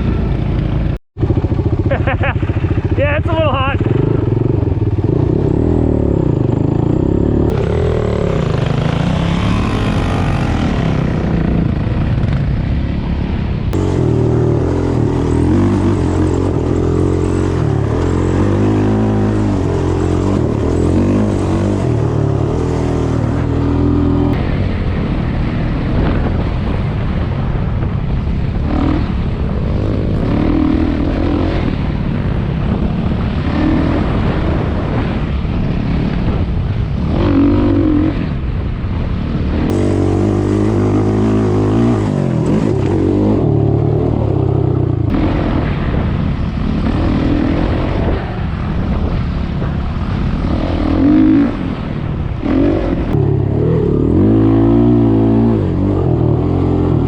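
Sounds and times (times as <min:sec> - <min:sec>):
off-road engine revving: 0:00.0 - 0:12.5, 0:13.7 - 0:24.6, 0:28.4 - 0:57.0.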